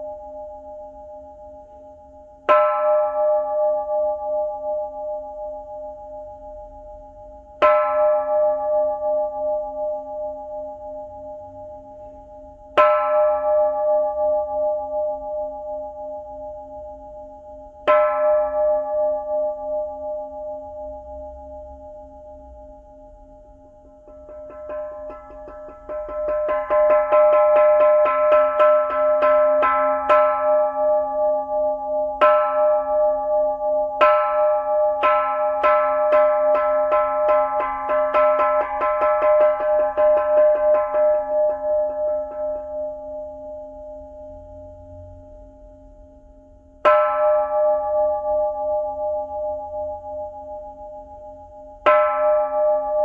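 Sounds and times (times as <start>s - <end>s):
temple bell struck with mallet: 0.0s - 53.0s.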